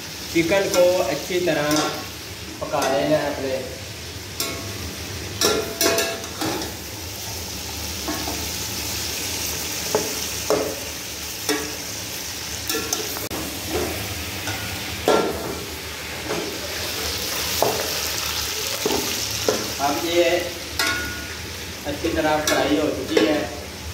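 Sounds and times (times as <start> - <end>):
chicken sizzling in oil: 0.0 - 23.9.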